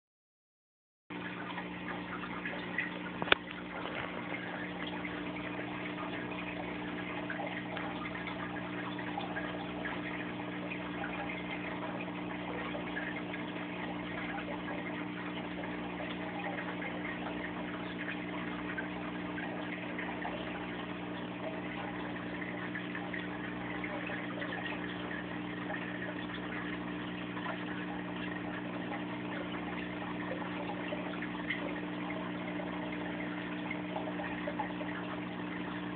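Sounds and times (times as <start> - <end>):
moving water washing: 1.1 - 35.9
water pump humming: 1.1 - 35.9.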